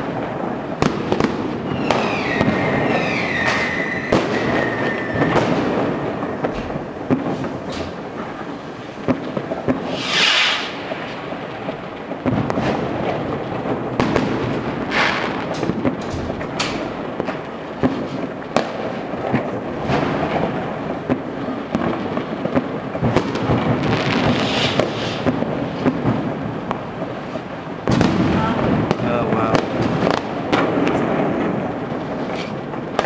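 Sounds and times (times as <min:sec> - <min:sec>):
fireworks bangs and cracks: 0:00.0 - 0:33.0
fireworks hissing: 0:00.0 - 0:33.0.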